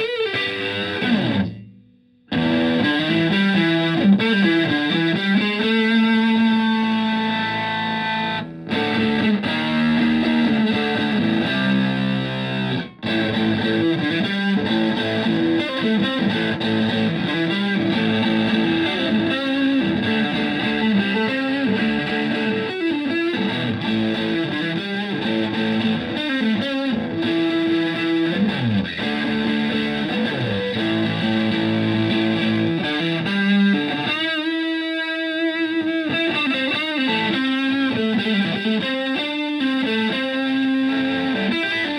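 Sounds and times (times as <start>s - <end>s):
fuzzy distorted electric guitar: 0.0s - 41.9s.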